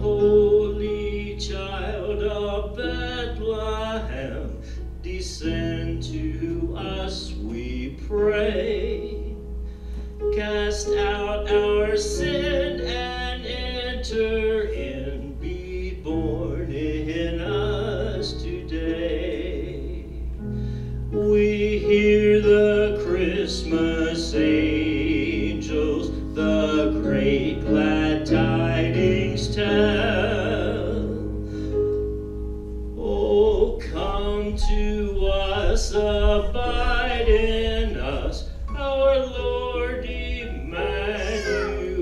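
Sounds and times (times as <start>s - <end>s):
man singing into a microphone: 0.0s - 9.4s, 10.2s - 20.3s, 21.1s - 31.3s, 33.0s - 42.0s.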